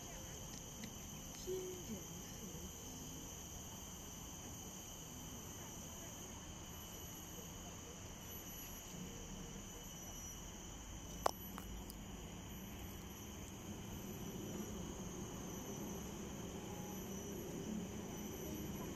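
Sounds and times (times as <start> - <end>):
insect chorus trilling: 0.0 - 18.9.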